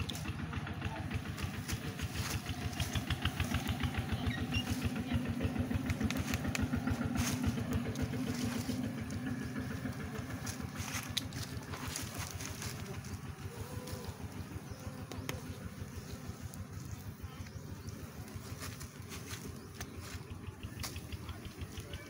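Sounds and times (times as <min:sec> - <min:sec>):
honey bees buzzing: 0:00.0 - 0:22.0.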